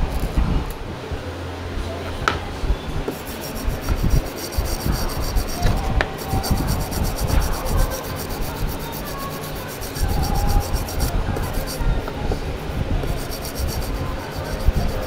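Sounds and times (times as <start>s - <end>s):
rubbing and scraping on brake parts: 0.0s - 15.0s.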